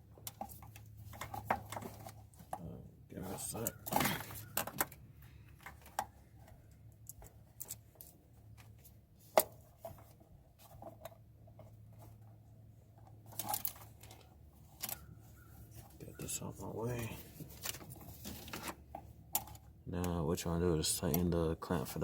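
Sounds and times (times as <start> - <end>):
clicks and rustles of tools: 0.0 - 20.2.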